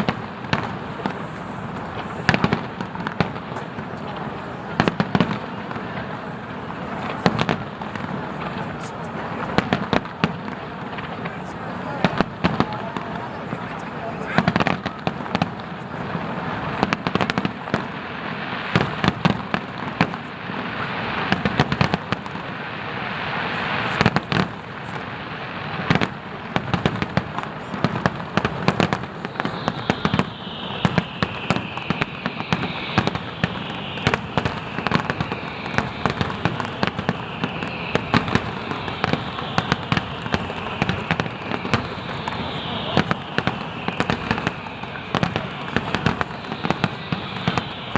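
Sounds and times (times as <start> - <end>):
falling firework whistles: 0.0 - 47.9
fireworks bangs and crackling: 0.0 - 47.9.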